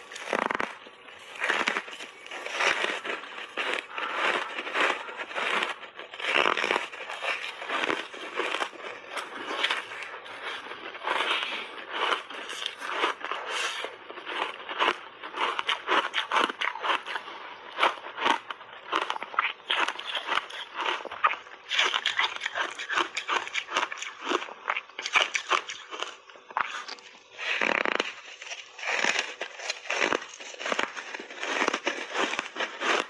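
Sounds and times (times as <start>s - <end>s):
crunchy ice chewing: 0.0s - 33.0s.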